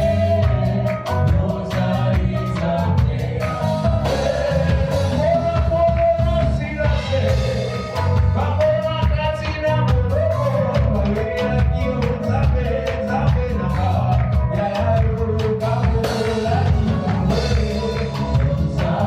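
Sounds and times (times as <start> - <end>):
bass guitar: 0.0 - 19.0
drums: 0.0 - 19.0
person singing: 0.0 - 19.0
worship band playing upbeat song: 0.0 - 19.0.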